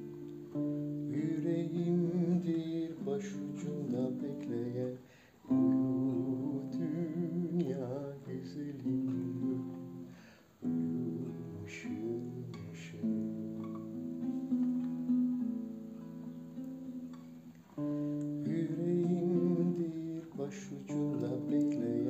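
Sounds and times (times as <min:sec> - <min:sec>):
man singing a lullaby: 0:00.0 - 0:13.5, 0:17.8 - 0:22.0
classical guitar accompaniment: 0:00.0 - 0:22.0.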